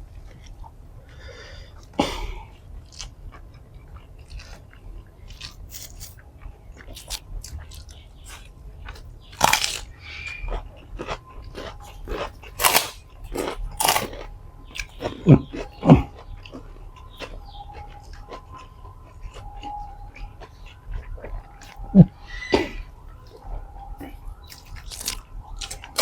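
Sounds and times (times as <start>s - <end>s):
crunchy food chewing: 0.1s - 26.0s.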